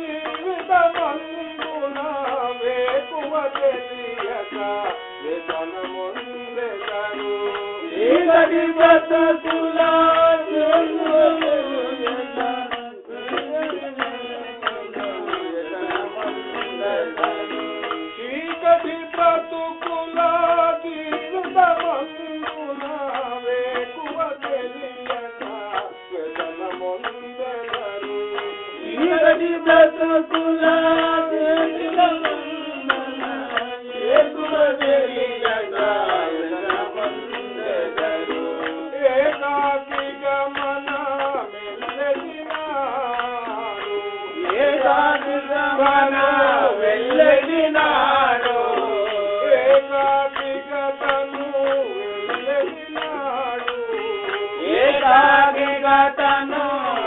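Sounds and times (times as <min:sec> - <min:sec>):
hand drums steady rhythm: 0:00.0 - 0:57.0.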